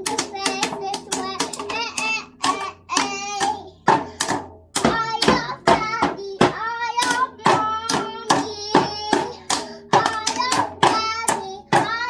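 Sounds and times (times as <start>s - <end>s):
child singing: 0.0s - 12.0s
toy drum hits: 0.0s - 12.0s.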